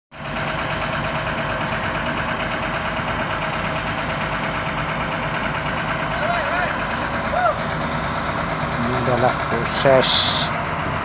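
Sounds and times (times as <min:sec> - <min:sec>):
excavator diesel engine idling: 0:00.1 - 0:11.0.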